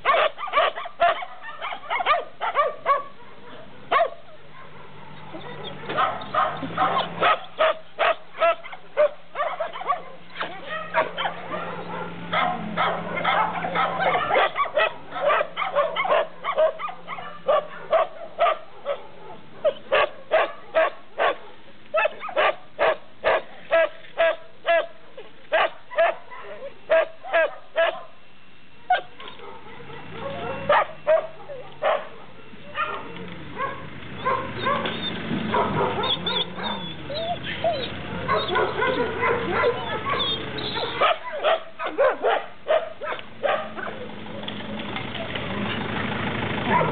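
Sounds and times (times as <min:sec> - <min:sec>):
dogs barking: 0:00.0 - 0:28.2, 0:28.8 - 0:44.2, 0:46.6 - 0:46.9.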